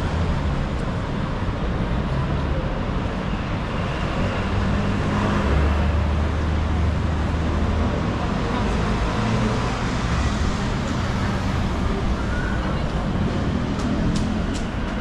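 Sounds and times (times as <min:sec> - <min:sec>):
traffic road noise: 0:00.0 - 0:15.0.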